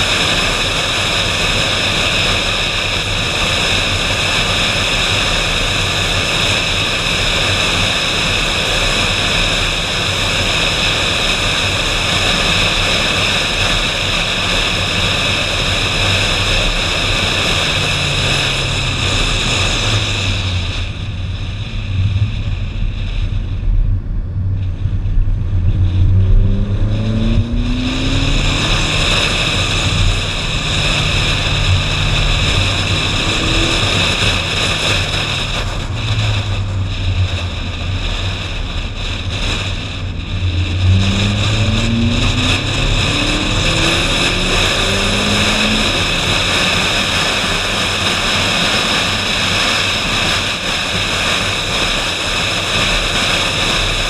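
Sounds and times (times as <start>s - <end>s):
car engine accelerating: 0.0s - 54.0s
wind noise: 0.0s - 54.0s.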